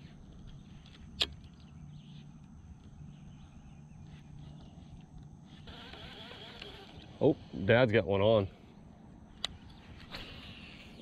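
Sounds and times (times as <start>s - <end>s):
faint outdoor background: 0.0s - 11.0s.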